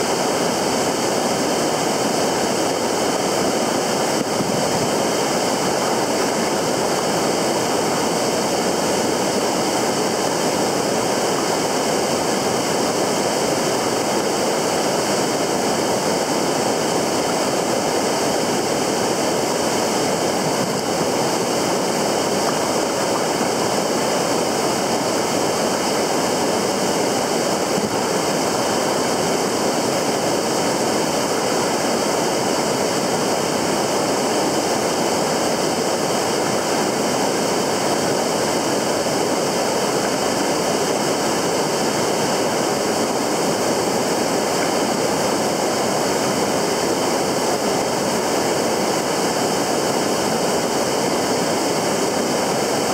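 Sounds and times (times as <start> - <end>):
rushing river water: 0.0 - 52.9.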